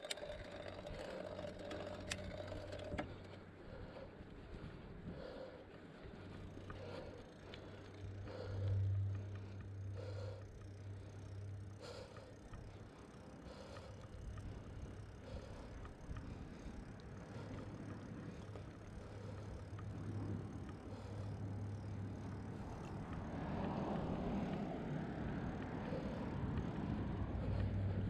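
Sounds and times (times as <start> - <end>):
bicycle tyres rumbling on concrete: 0.0 - 28.0.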